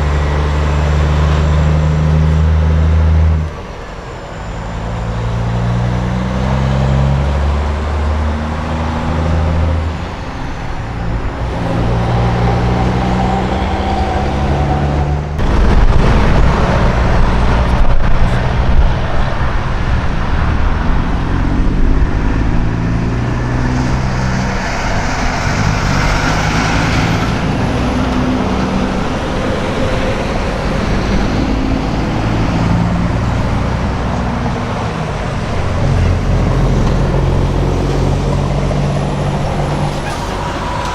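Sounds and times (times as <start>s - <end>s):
road traffic noise: 0.0s - 40.9s
truck diesel engines passing: 0.0s - 40.9s.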